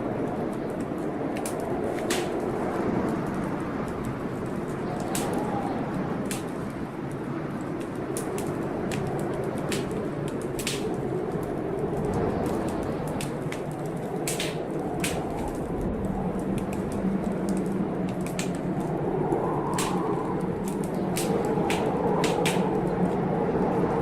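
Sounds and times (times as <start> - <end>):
blizzard wind howling: 0.0 - 24.0
wood fire crackling: 0.0 - 24.0.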